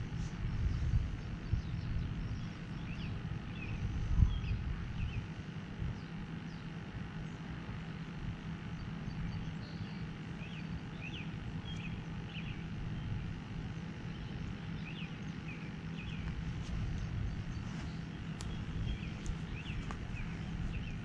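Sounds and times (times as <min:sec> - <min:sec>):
faint hum: 0:00.0 - 0:21.0
low outdoor rumble: 0:00.0 - 0:21.0.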